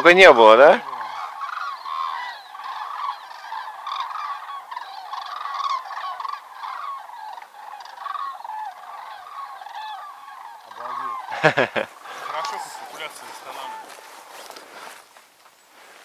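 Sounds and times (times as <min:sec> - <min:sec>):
geese calling: 0:00.0 - 0:16.0.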